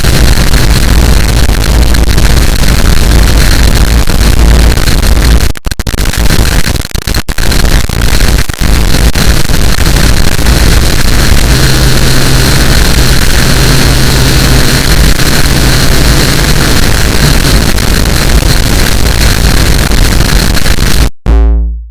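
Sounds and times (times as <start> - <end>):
harsh distorted noise: 0.0 - 21.9.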